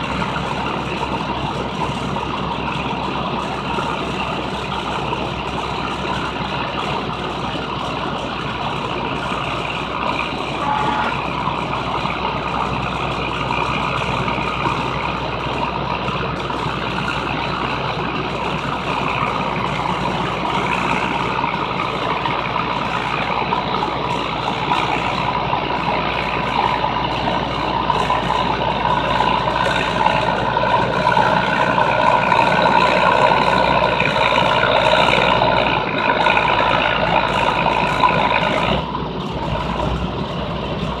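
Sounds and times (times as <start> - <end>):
tractor diesel engine under load: 0.0 - 41.0.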